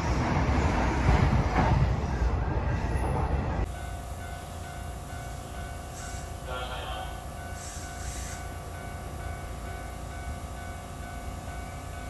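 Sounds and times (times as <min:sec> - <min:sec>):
steady hum of standing train: 0:00.0 - 0:12.0
train wheels rumbling on track: 0:00.0 - 0:12.0.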